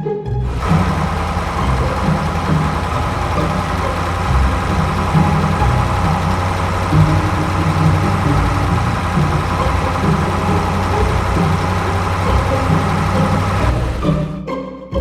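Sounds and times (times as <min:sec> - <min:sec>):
small motor running: 0:00.5 - 0:14.4.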